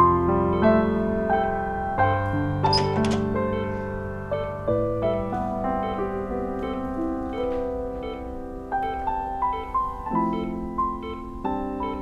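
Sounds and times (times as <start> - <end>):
piano melody over held chords: 0.0 - 12.0.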